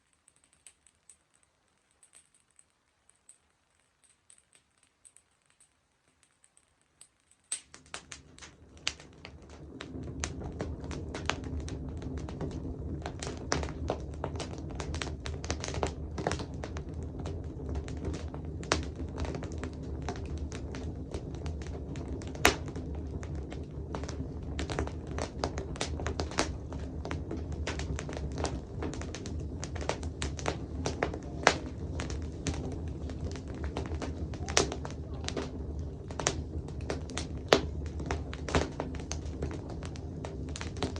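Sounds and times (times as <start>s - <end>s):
wood fire crackling and popping: 0.0s - 40.9s
low steady rumble: 7.6s - 40.9s.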